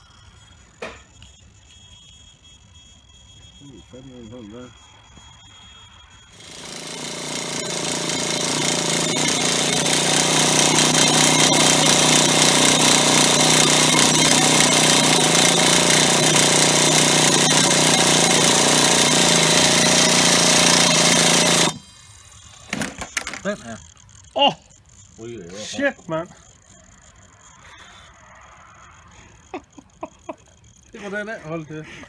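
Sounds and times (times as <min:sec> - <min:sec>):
electric starter cranking engine: 0:00.0 - 0:32.0.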